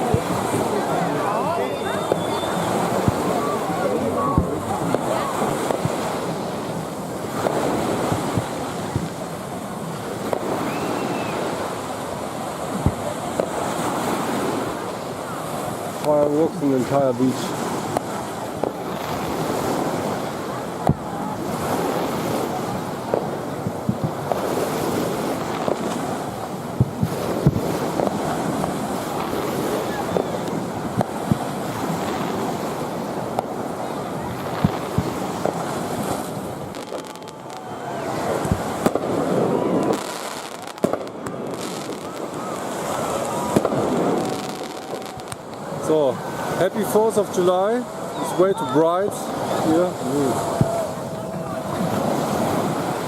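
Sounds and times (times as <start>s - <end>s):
distant fireworks popping: 0.0s - 53.0s
surf washing on beach: 0.0s - 53.0s
wind buffeting microphone: 0.0s - 53.0s.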